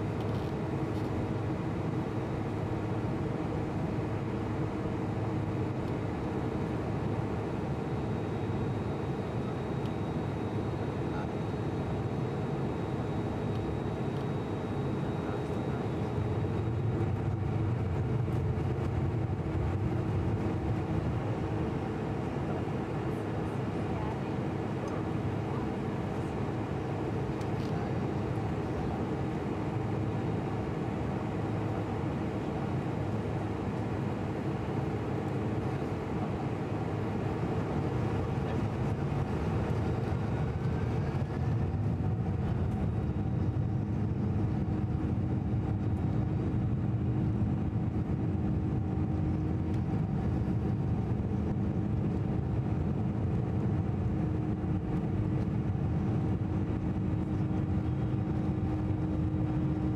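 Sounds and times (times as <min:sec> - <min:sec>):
jet engines humming and rumbling: 0:00.0 - 0:59.9.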